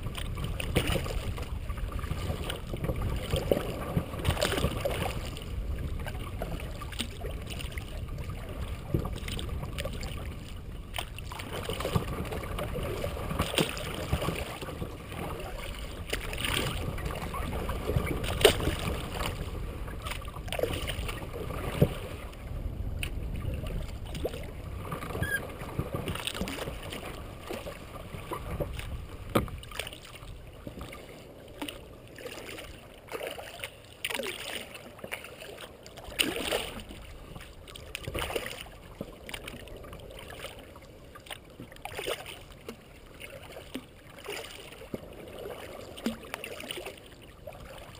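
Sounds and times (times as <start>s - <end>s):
paddle splashing in water: 0.0s - 47.9s.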